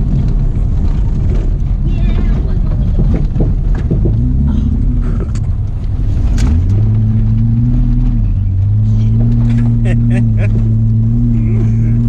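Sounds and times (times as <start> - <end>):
car engine revving under load: 0.0 - 12.0
car knocks and rattles: 0.0 - 12.0.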